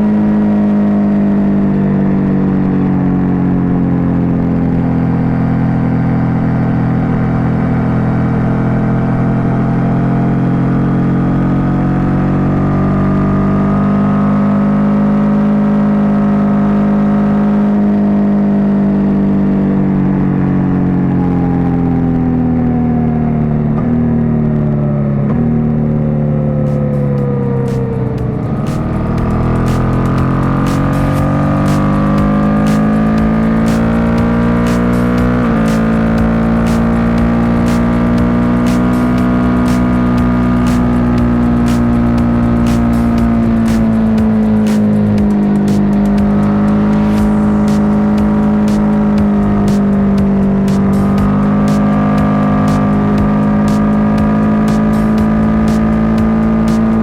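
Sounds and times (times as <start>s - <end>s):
motorcycle engine running loud: 0.0s - 57.0s.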